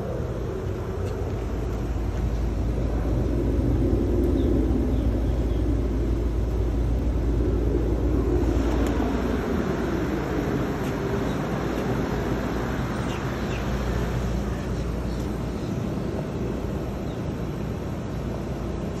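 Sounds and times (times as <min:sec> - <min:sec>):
heat pump humming and whooshing: 0:00.0 - 0:19.0.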